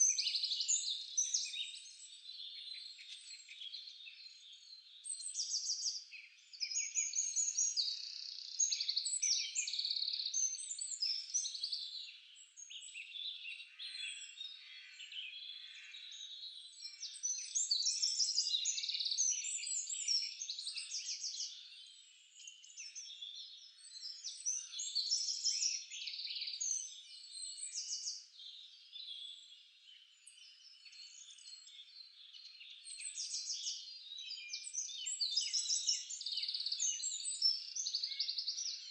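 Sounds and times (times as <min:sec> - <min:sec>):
songbirds singing in chorus: 0:00.0 - 0:38.9.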